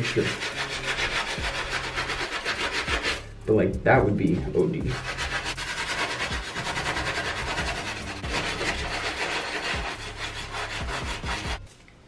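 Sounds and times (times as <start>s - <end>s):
bristle brush scrubbing wet sneaker: 0.0s - 3.3s, 4.9s - 11.7s.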